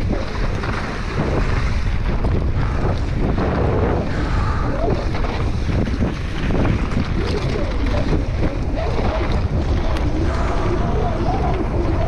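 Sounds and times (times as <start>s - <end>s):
bike rattling over bumps: 0.0s - 12.0s
tyres rolling over gravel: 0.0s - 12.0s
wind buffeting microphone: 0.0s - 12.0s.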